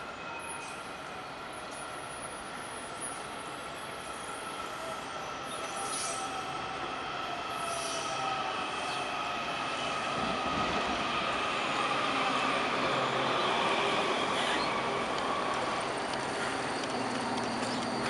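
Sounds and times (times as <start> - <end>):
high steady train whine: 0.0 - 18.0
train wheels rumbling on rails: 0.0 - 18.0.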